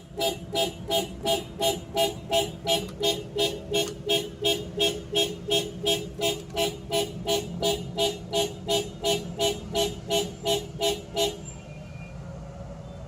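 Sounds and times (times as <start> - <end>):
car alarm beeping: 0.0 - 12.2.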